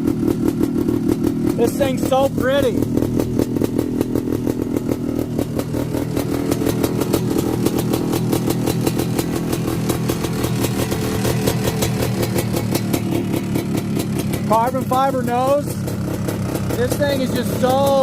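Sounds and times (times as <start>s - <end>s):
two-stroke engine idling fast: 0.0s - 18.0s.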